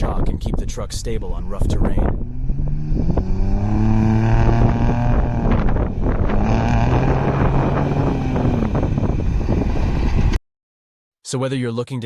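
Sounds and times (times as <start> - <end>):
wind noise: 0.0 - 10.4.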